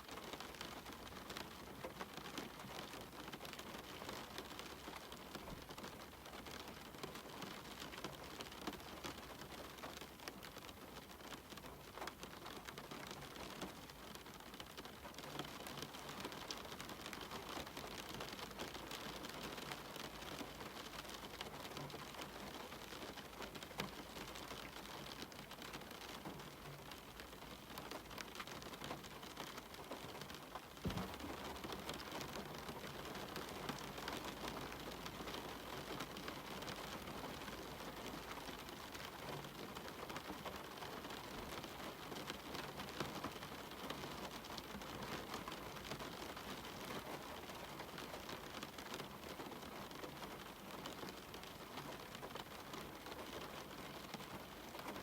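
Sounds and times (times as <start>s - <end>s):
steady rain patter: 0.0s - 55.0s.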